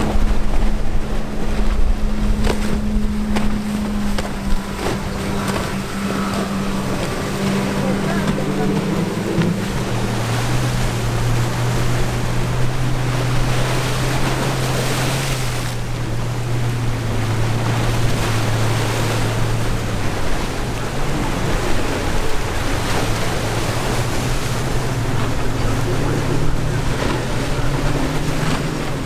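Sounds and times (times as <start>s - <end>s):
boat engines droning: 0.0s - 29.0s
surf: 0.0s - 29.0s
wind on microphone: 0.0s - 29.0s.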